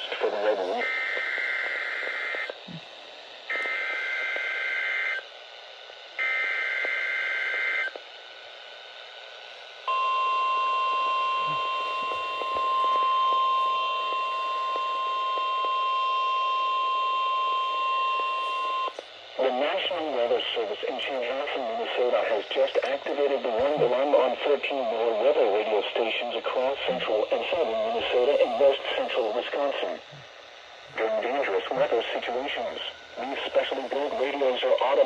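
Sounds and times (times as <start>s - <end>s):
steady warning alarm tone: 0.0s - 2.8s, 3.4s - 5.2s, 6.2s - 8.0s, 9.8s - 35.0s.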